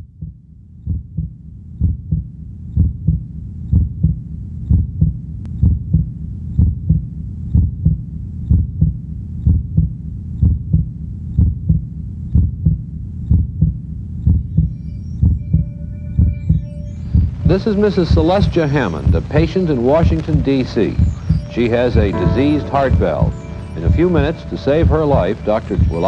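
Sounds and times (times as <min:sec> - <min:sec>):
heartbeat: 0:00.0 - 0:26.0.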